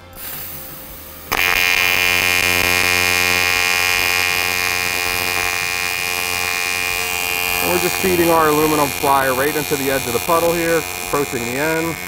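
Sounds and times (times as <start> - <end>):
welding arc buzzing: 0.0 - 12.0.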